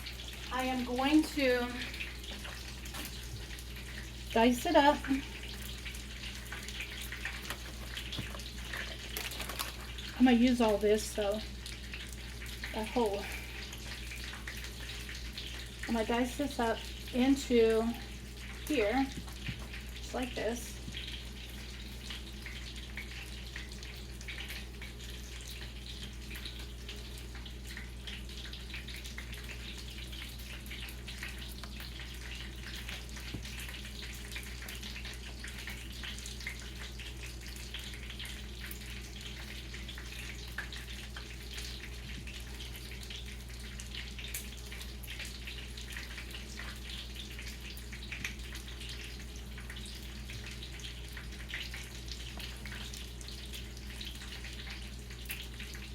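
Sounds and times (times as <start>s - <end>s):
chicken frying in hot oil: 0.0s - 55.9s.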